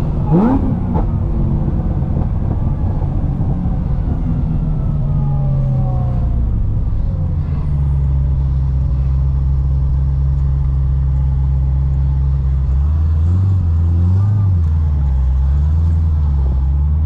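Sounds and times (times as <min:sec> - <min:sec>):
car engine deep drone: 0:00.0 - 0:17.0.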